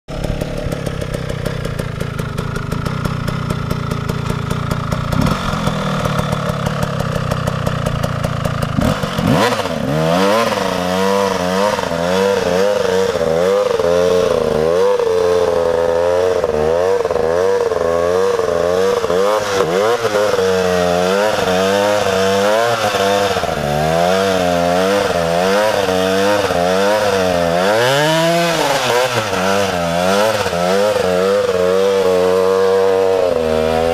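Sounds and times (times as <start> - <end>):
dirt bike engine idling: 0.1 - 33.9
dirt bike engine revving: 0.1 - 33.9.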